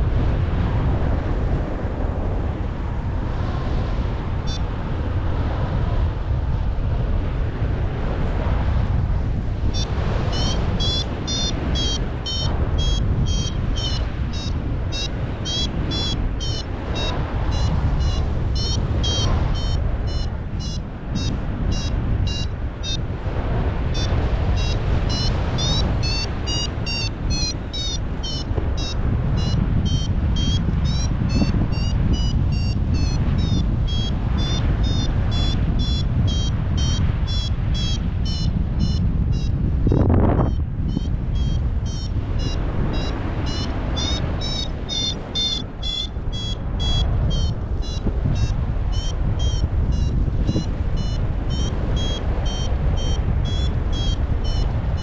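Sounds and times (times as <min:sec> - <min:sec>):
wind buffeting microphone: 0:00.0 - 0:55.0
variometer beeping: 0:09.6 - 0:23.0, 0:24.0 - 0:55.0.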